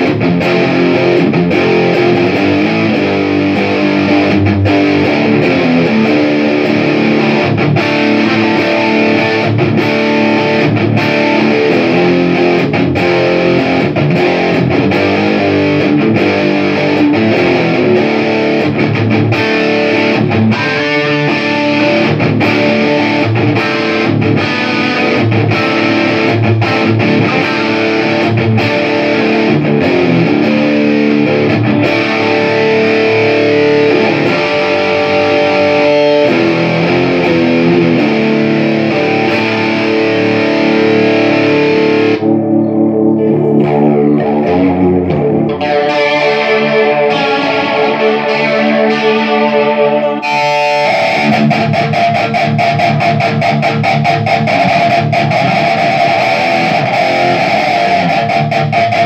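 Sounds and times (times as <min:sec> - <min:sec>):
electric guitar through amp: 0:00.0 - 0:59.0.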